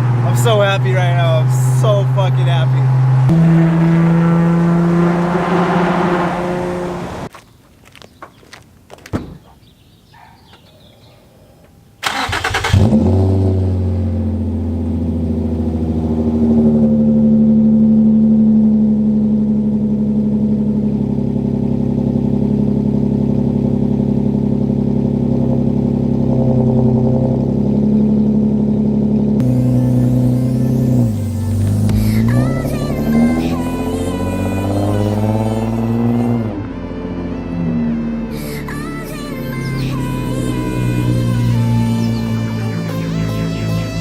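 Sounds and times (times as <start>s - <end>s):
car engine starting and idling: 0.0s - 7.3s, 12.0s - 44.0s.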